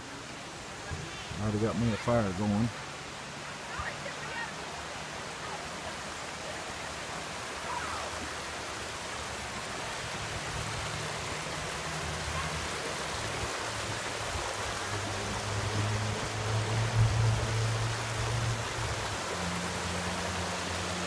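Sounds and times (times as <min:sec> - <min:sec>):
creek water rushing over stones: 0:00.0 - 0:21.0.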